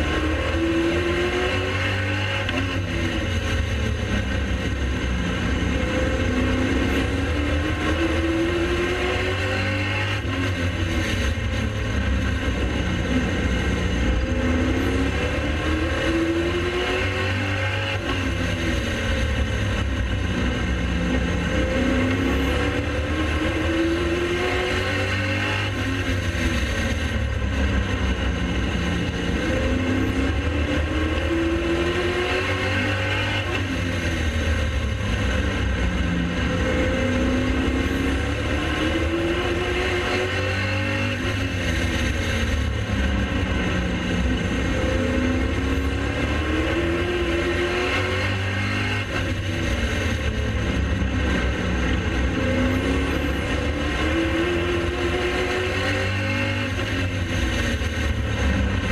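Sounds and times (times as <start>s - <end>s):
race car engines accelerating: 0.0s - 58.9s.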